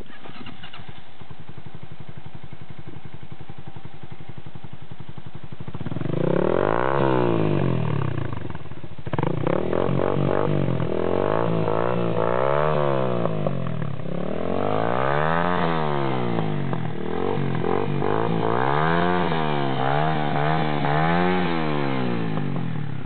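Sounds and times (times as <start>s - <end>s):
motorcycle idling and revving: 0.0s - 23.0s.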